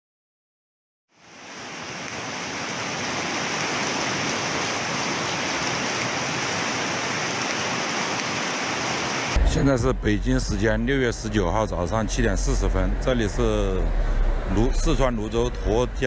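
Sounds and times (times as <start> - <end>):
floodwater rushing: 1.1 - 16.0.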